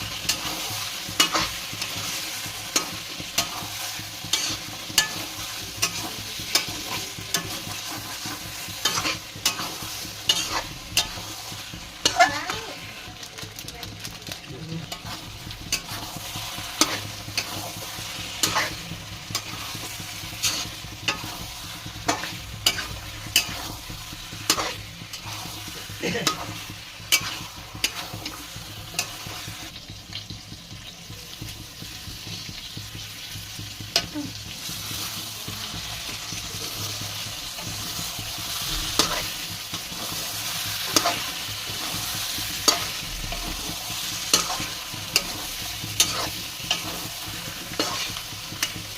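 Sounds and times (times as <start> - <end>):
spatula scraping a pan: 0.0 - 13.4, 14.8 - 48.9
food sizzling in a pan: 0.0 - 48.9.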